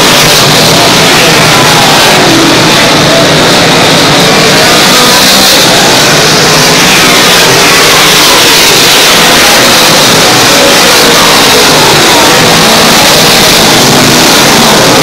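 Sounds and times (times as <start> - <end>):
race car engines at full throttle: 0.0 - 15.0.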